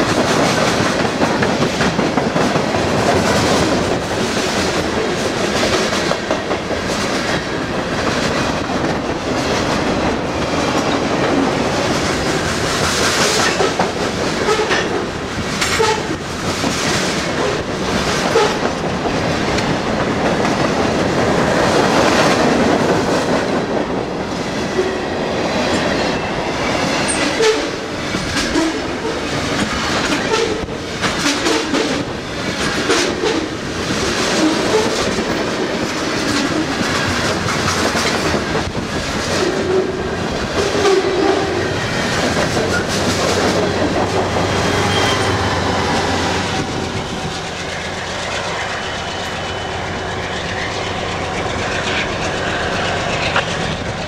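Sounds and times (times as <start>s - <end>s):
freight train rumbling by: 0.0s - 54.0s
wheels clacking over rail joints: 0.0s - 54.0s.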